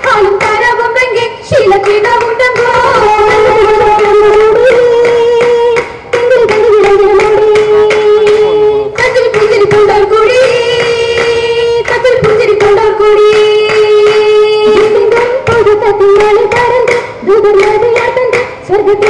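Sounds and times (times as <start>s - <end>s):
rhythmic hand claps: 0.0s - 19.0s.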